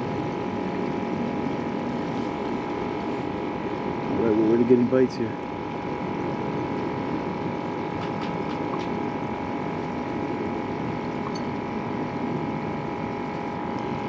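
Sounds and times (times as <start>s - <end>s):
mechanical hum with faint whine: 0.0s - 14.0s.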